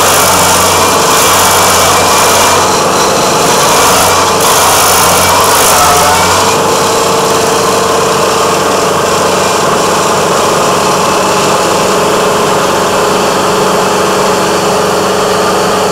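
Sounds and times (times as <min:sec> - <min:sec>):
stump grinder droning: 0:00.0 - 0:15.9.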